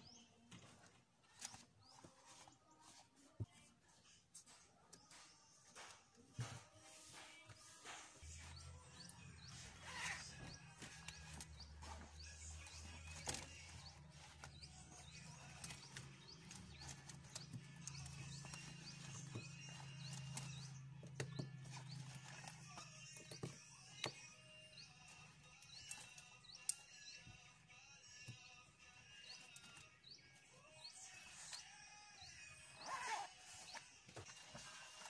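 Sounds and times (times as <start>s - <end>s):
faint background music: 0.0s - 35.0s.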